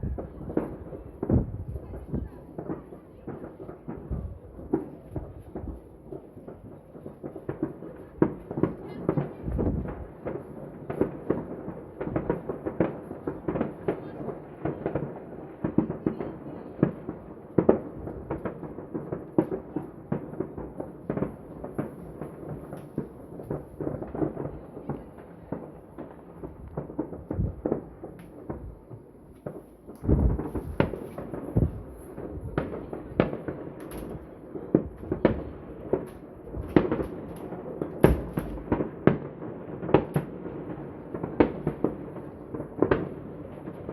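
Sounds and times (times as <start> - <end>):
fireworks bangs and crackling: 0.0 - 43.9
heavy firework booms: 0.0 - 43.9.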